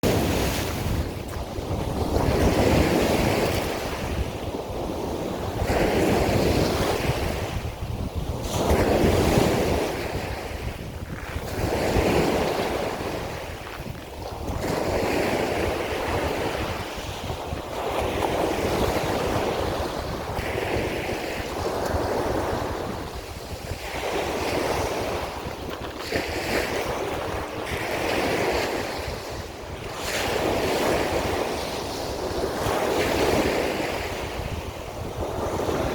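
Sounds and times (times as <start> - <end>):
sea waves washing in: 0.0 - 35.9
wind rumbling on microphone: 0.0 - 35.9.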